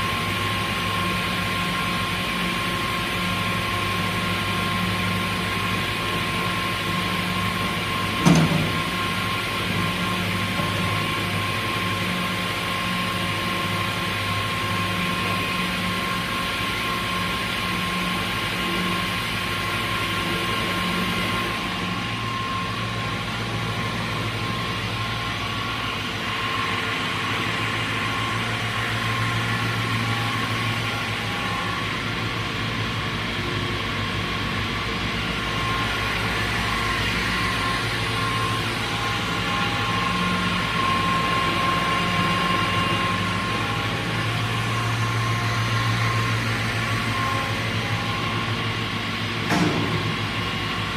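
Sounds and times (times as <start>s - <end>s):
saw motors humming and whining: 0.0s - 50.9s.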